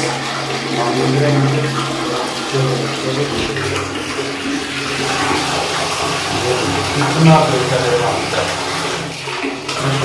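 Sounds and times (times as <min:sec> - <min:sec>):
water running into plastic bucket: 0:00.0 - 0:10.0.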